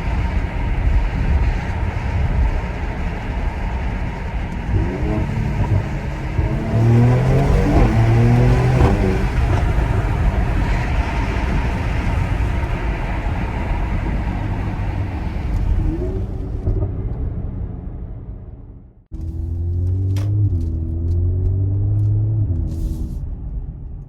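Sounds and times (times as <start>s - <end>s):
car engine accelerating: 0.0s - 24.0s
engine and road noise rush: 0.0s - 24.0s.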